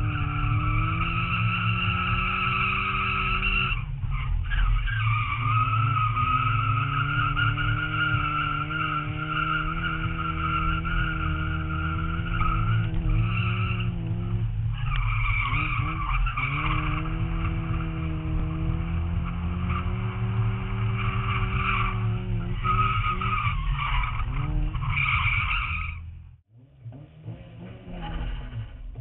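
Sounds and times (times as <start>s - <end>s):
tyre squealing: 0.0s - 14.1s, 14.7s - 26.1s
car engine revving high: 0.0s - 29.0s.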